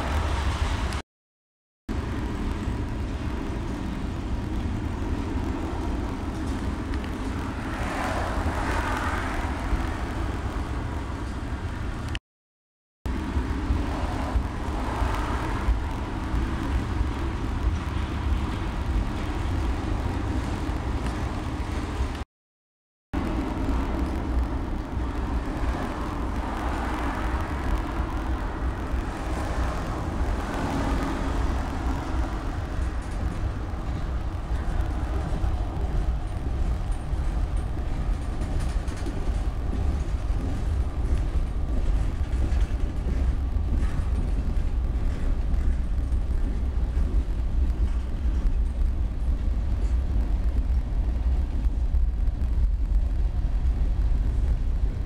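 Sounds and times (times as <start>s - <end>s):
freight train rumbling past: 0.0s - 1.0s, 1.9s - 12.2s, 13.1s - 22.2s, 23.2s - 55.0s.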